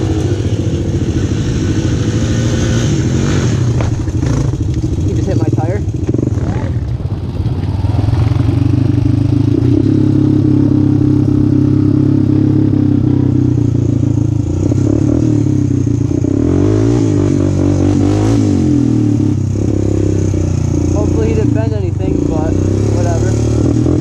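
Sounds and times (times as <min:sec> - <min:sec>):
atv engine revving: 0:00.0 - 0:24.0.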